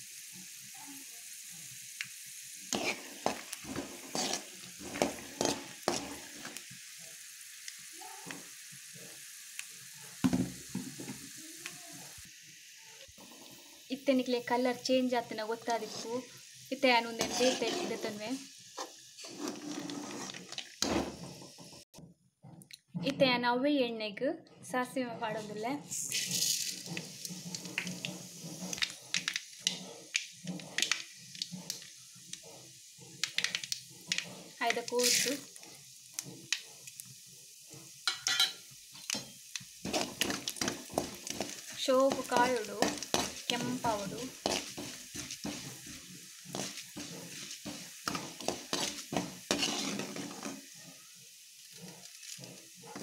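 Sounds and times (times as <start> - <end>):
hot oil crackling in a pan: 0.0 - 22.0, 25.3 - 53.0.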